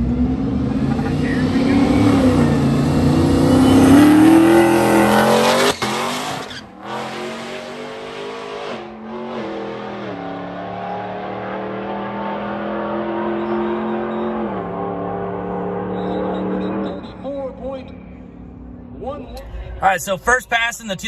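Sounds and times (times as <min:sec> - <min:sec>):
truck engine at full throttle: 0:00.0 - 0:17.1.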